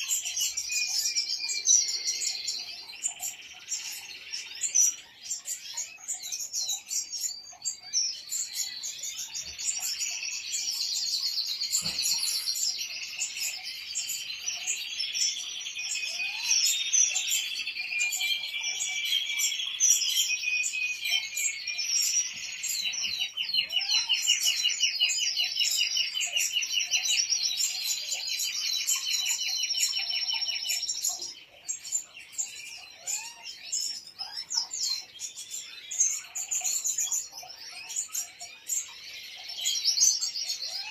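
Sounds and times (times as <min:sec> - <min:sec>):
goldfinches twittering chorus: 0:00.0 - 0:40.9.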